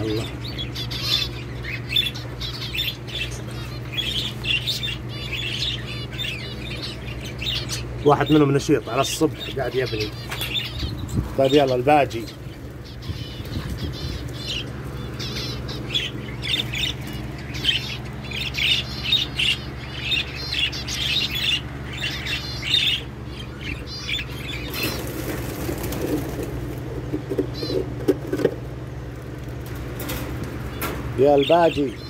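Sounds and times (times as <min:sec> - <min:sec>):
budgerigars chirping: 0:00.0 - 0:28.1, 0:29.6 - 0:32.0.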